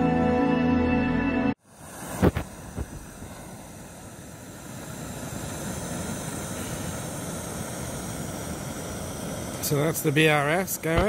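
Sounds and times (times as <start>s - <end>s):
gas stove burner hissing: 1.6s - 11.0s.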